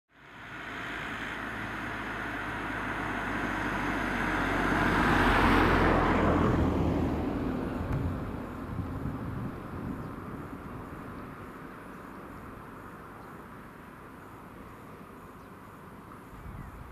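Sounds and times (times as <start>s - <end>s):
vehicle passing close by: 0.2s - 14.7s.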